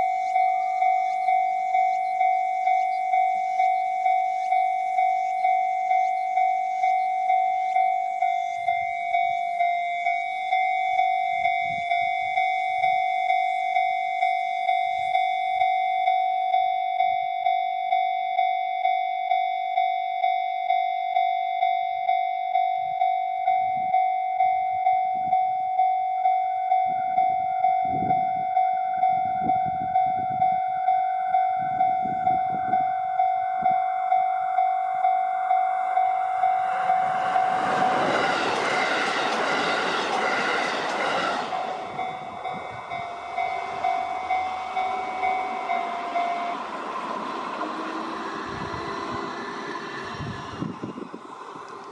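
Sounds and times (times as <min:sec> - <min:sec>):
level crossing bell ringing: 0:00.0 - 0:49.3
train approaching: 0:00.0 - 0:51.9.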